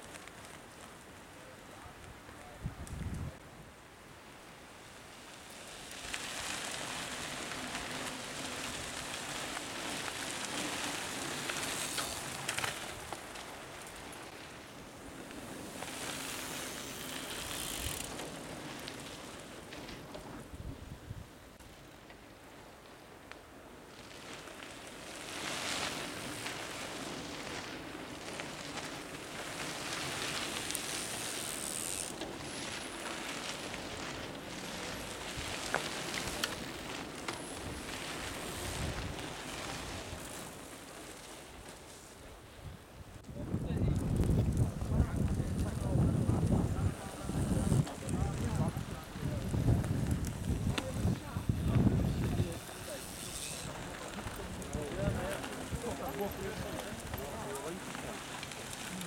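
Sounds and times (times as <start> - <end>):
bike tyres crunching over sand: 0.0 - 59.0
bike clicks: 5.5 - 20.5, 24.0 - 42.0, 43.2 - 59.0.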